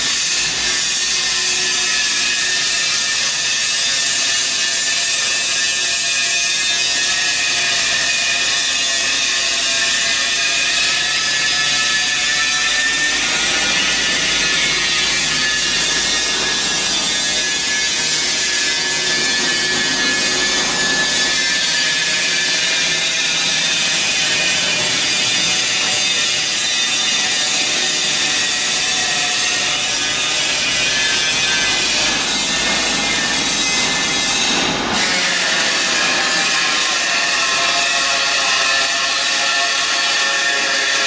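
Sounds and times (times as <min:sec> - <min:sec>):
power tool whining: 0:06.6 - 0:41.0.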